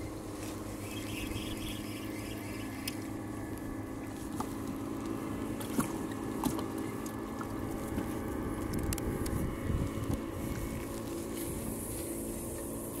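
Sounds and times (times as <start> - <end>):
low hum of kayak: 0.0 - 13.0
water against the hull: 0.0 - 13.0.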